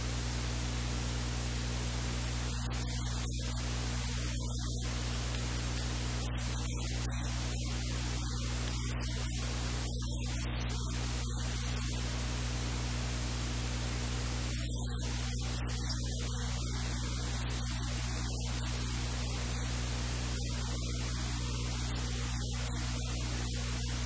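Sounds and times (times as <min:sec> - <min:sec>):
electrical mains hum: 0:00.0 - 0:24.0
static hiss: 0:00.0 - 0:24.0.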